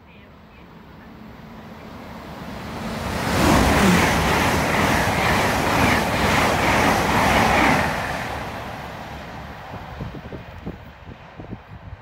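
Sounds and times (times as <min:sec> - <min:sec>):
train passing at speed: 0:00.3 - 0:12.0.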